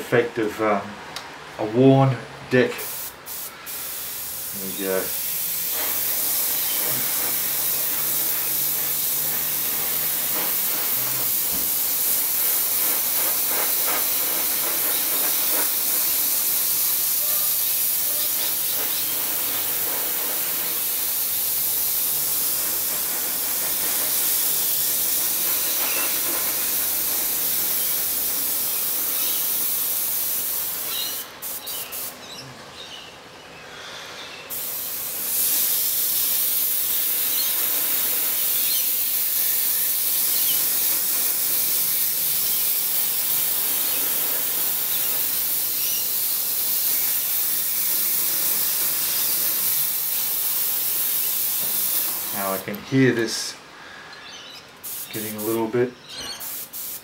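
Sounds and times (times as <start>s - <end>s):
airbrush hissing: 2.8s - 32.3s, 34.5s - 53.4s, 54.8s - 57.0s.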